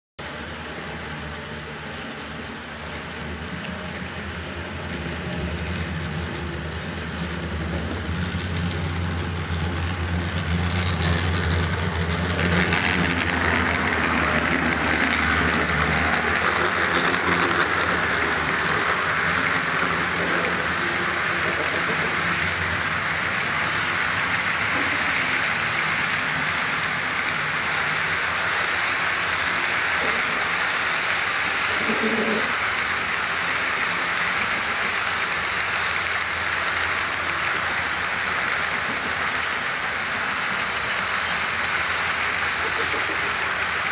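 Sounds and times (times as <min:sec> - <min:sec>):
model train locomotive hum: 0:00.2 - 0:43.9
train wheels rattling on track: 0:00.2 - 0:43.9.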